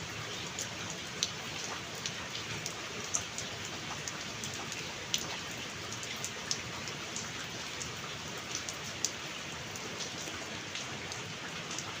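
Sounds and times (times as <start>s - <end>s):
raindrops pattering close by: 0.0s - 12.0s
steady rain hiss: 0.0s - 12.0s.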